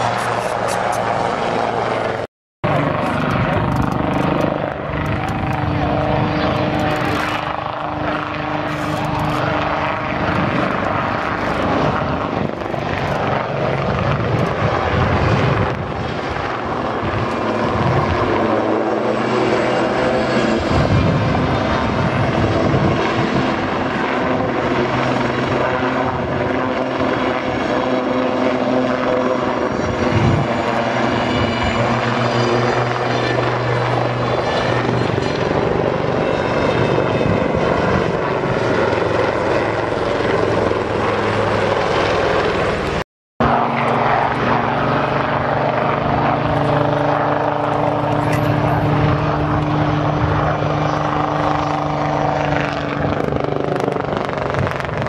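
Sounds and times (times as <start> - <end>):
helicopters flying overhead: 0.0 - 55.0.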